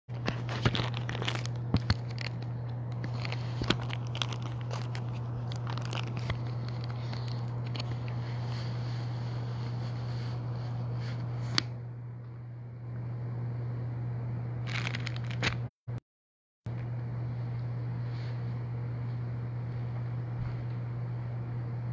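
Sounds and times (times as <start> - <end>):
low steady hum: 0.1 - 15.7, 16.7 - 21.9.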